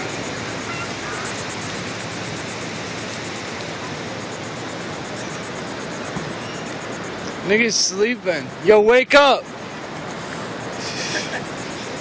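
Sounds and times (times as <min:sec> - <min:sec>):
steady open-air rushing hiss: 0:00.0 - 0:12.0.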